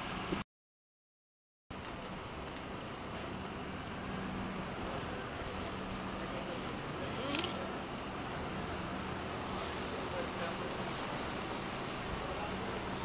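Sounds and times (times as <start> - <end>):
outdoor traffic noise: 0.0 - 0.4, 1.7 - 13.0
bus engine hum: 1.7 - 13.0.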